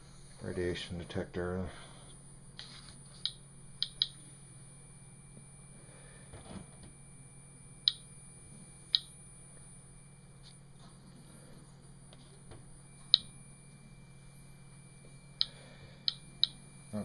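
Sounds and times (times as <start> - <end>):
steady low hum: 0.0 - 17.0
dosimeter high beeps: 0.5 - 17.0.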